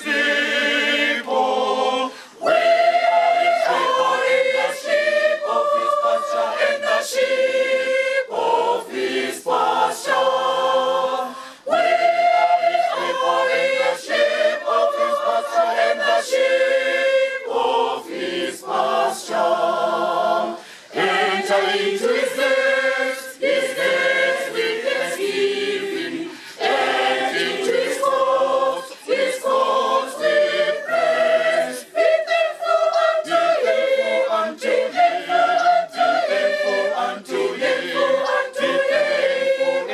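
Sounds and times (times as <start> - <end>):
mixed choir singing a hymn: 0.0 - 39.9.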